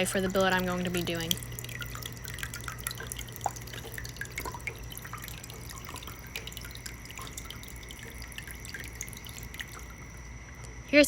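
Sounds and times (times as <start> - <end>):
water trickling and dripping: 0.0 - 10.8
steady low hum: 0.0 - 11.0.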